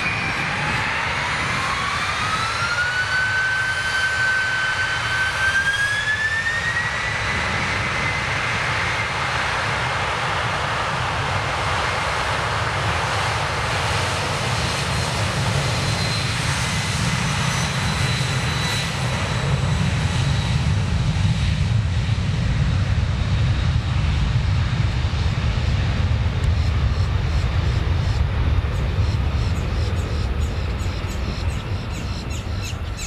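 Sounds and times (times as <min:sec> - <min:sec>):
airliner engines roaring: 0:00.0 - 0:33.0.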